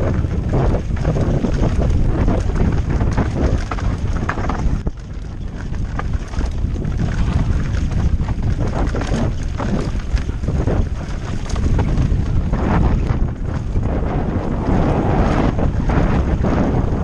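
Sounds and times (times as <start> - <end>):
bike rattling and knocking: 0.0 - 17.0
wind buffeting microphone: 0.0 - 17.0.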